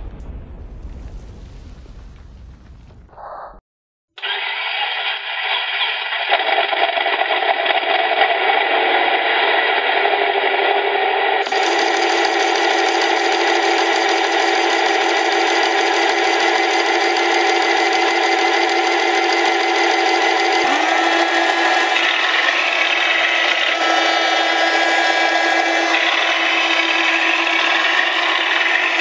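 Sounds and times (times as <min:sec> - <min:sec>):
simulated tank engine buzzing: 0:04.2 - 0:29.0.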